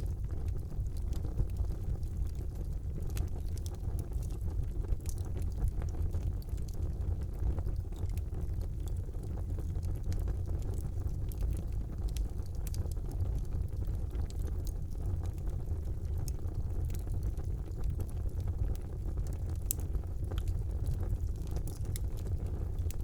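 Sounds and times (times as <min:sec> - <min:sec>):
burning wood crackling and popping: 0:00.0 - 0:23.0
low rumble of flames: 0:00.0 - 0:23.0.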